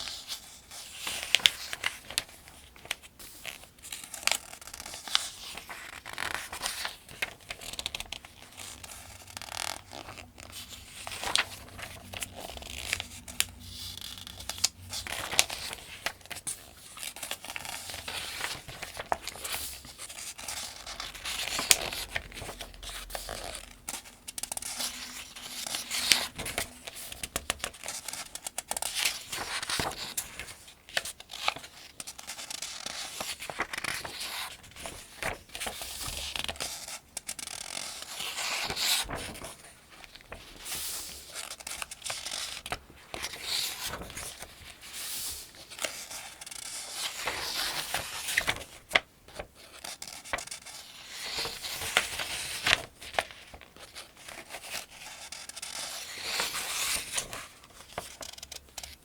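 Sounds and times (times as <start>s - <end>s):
book pages turning: 0.0s - 59.0s.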